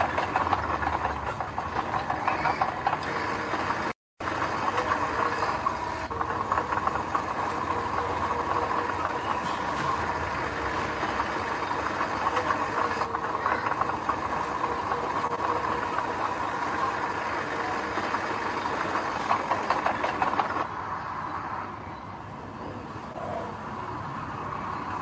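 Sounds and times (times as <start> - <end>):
metallic rattle and clatter: 0.0 - 20.7
heavy machinery diesel engine: 0.0 - 25.0.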